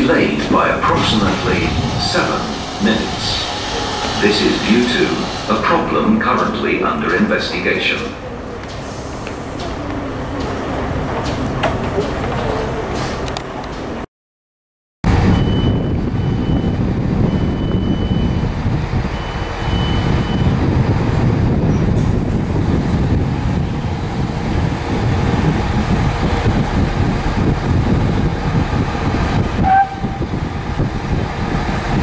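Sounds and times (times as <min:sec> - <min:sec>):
train rumbling: 0:00.0 - 0:14.1, 0:15.1 - 0:32.0.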